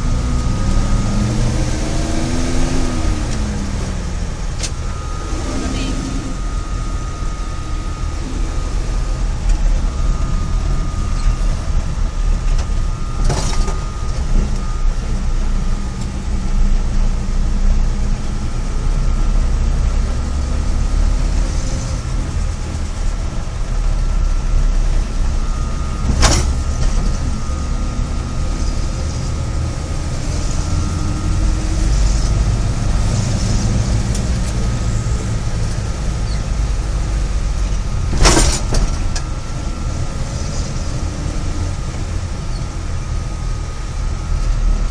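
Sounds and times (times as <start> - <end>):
engine fan rushing: 0.0 - 44.9
thin steady whine: 0.0 - 44.9
truck engine running: 0.0 - 44.9.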